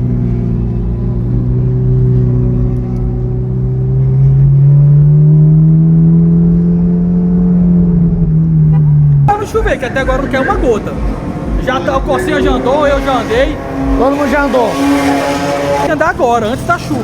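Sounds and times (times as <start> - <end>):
car engine droning at low revs: 0.0 - 17.0.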